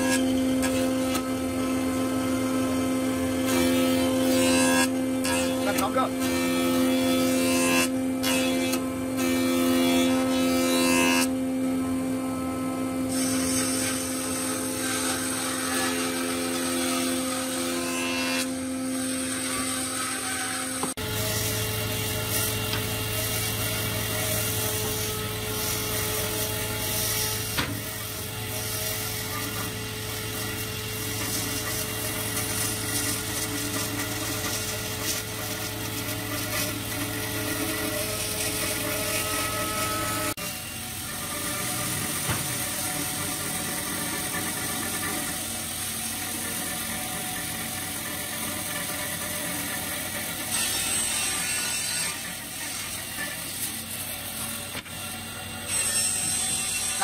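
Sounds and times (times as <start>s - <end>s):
band saw cutting wood: 0.0s - 57.0s
jointer planing a board: 0.0s - 57.0s.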